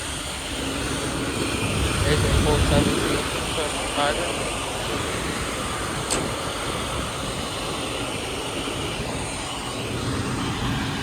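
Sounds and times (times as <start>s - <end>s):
fire engines rumbling: 0.0s - 11.0s.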